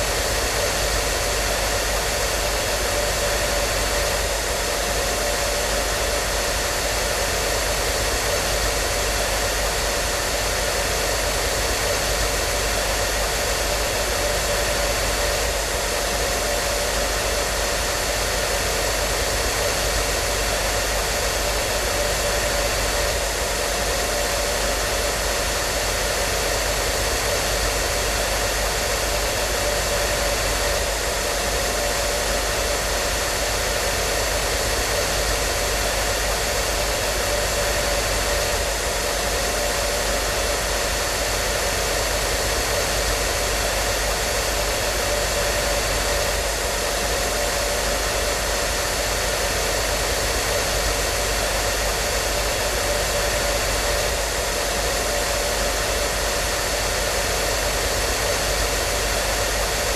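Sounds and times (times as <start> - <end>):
hair dryer running: 0.0 - 59.9.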